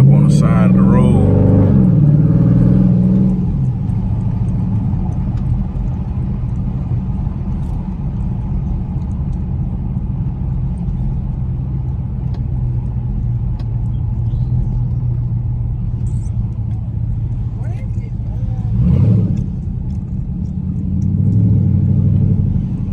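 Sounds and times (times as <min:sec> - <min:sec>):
car engine idling rumble: 0:00.0 - 0:22.9.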